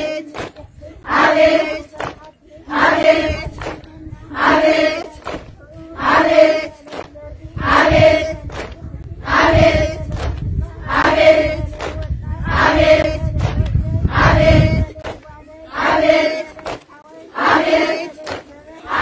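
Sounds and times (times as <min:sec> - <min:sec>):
crowd of women chanting: 0:00.0 - 0:19.0.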